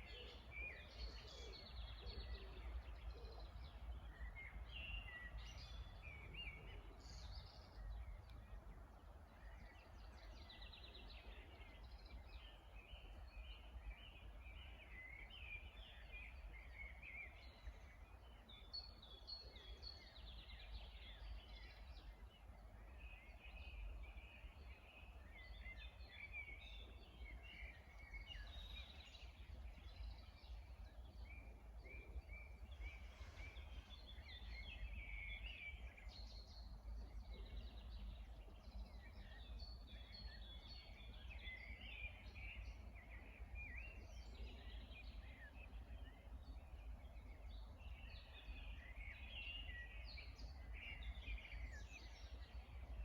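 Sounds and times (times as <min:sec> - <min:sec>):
songbirds chirping and singing: 0:00.0 - 0:53.0.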